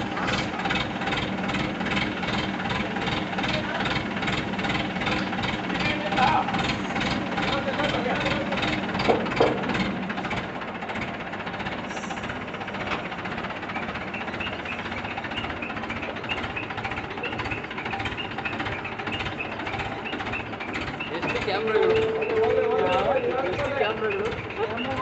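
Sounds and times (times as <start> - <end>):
engine running with knocking: 0.0 - 25.0.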